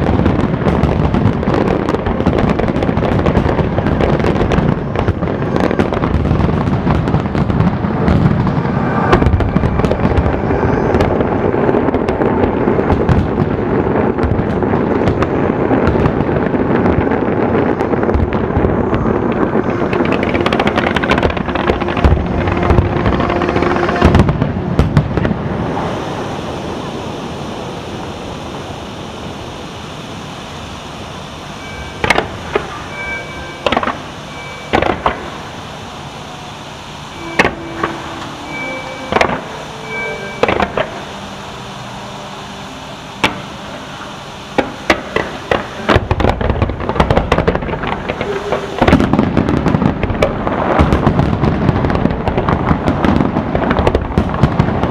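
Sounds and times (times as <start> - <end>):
fireworks crackling and banging: 0.0 - 54.9.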